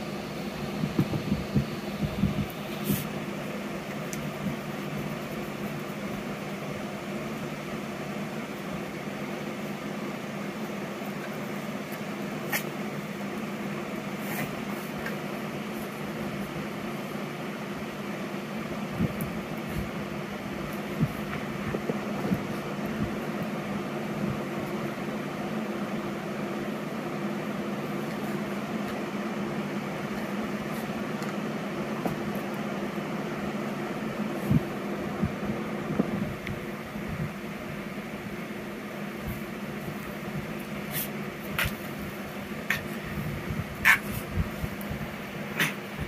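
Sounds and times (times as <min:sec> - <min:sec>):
fan humming: 0:00.0 - 0:46.0.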